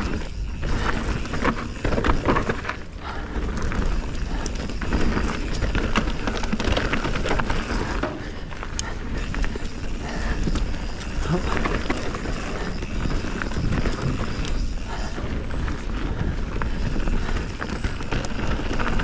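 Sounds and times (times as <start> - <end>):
bike clicks and rattles: 0.0 - 19.0
bike tyres rolling over dirt: 0.0 - 19.0
wind rumble on microphone: 3.3 - 19.0.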